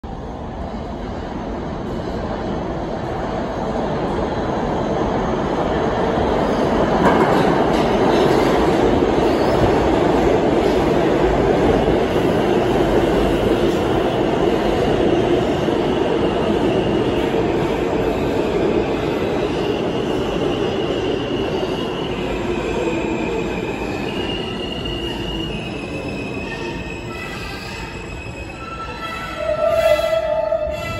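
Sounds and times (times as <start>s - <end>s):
subway train wheels on rails: 0.0s - 30.9s.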